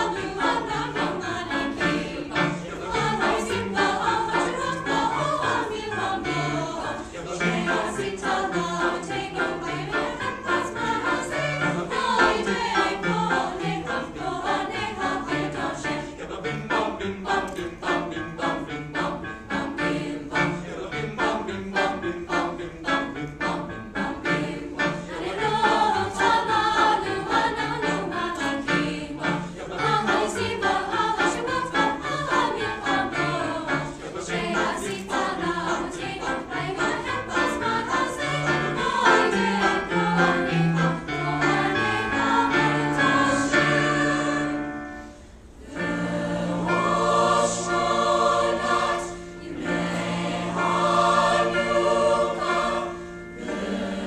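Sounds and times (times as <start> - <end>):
choir singing: 0.0 - 54.0
piano accompaniment: 0.0 - 54.0.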